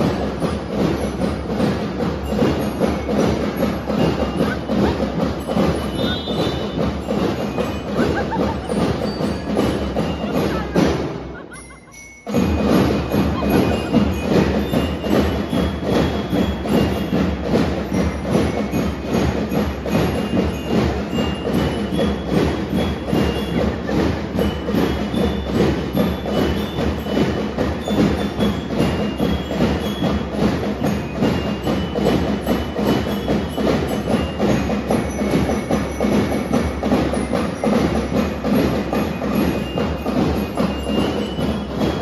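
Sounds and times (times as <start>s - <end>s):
bell lyre melody: 0.0s - 42.0s
driving drum beat: 0.0s - 42.0s.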